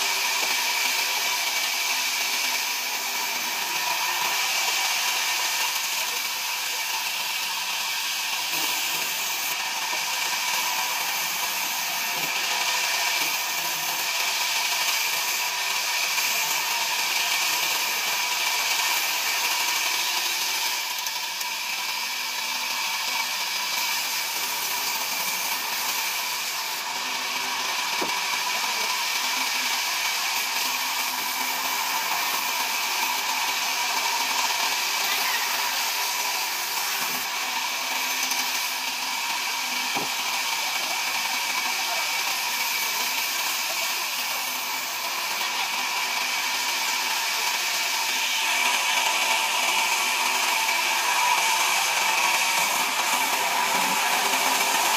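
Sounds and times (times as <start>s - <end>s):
band saw whirring hum: 0.0s - 54.9s.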